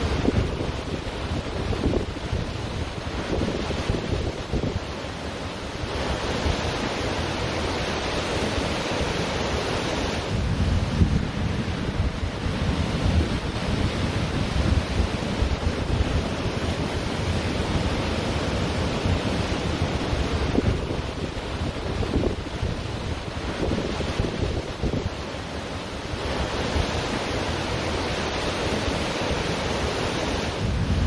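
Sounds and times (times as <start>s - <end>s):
wind buffeting microphone: 0.0s - 5.0s, 10.0s - 25.3s, 26.1s - 31.0s
ocean surf washing onto beach: 0.0s - 31.0s.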